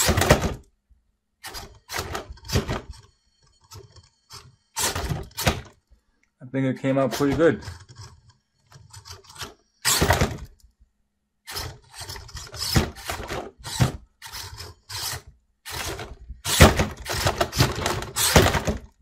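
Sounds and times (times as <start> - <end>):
toy car thunks and clatter: 0.0 - 0.7, 1.4 - 5.8, 7.1 - 10.6, 11.4 - 19.0.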